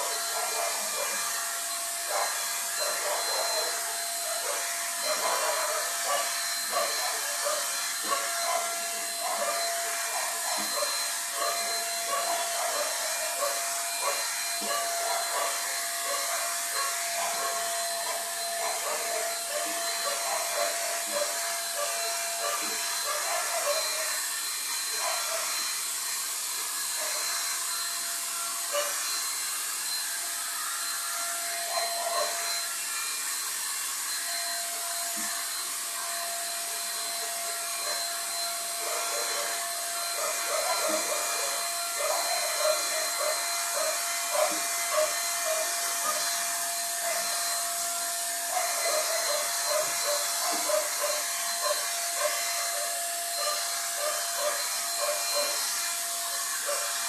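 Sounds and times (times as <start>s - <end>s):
paint spray gun hissing: 0.0s - 27.6s, 36.6s - 57.0s.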